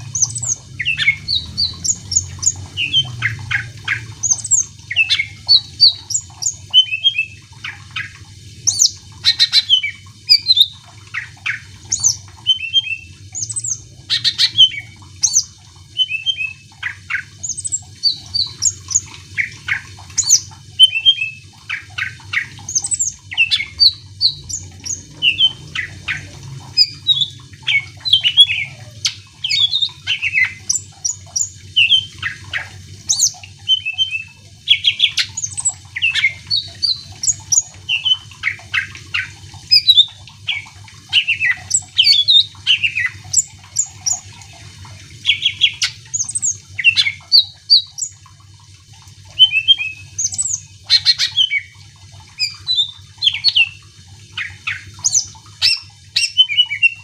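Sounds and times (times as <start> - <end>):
bird singing chirps and whistles: 0.0 - 44.2, 45.2 - 48.1, 49.3 - 51.7, 52.4 - 53.8, 54.4 - 57.0.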